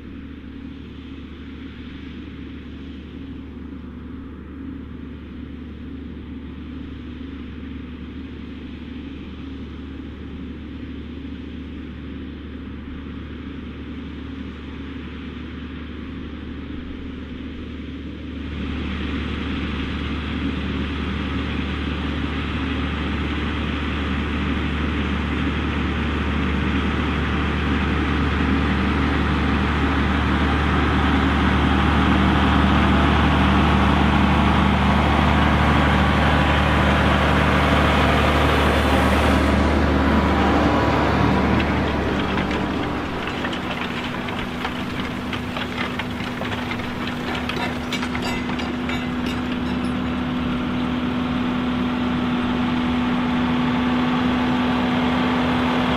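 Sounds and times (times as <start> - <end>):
tractor diesel engines droning: 0.0 - 55.9.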